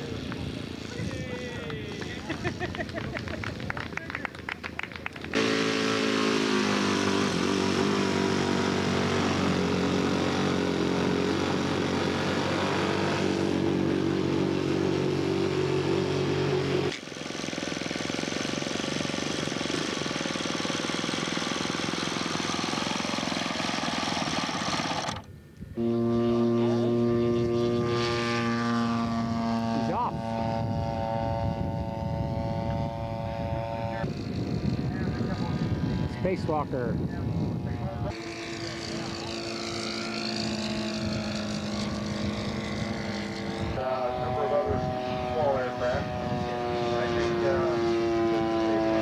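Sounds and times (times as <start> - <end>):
model airplane engine running: 0.0 - 49.0.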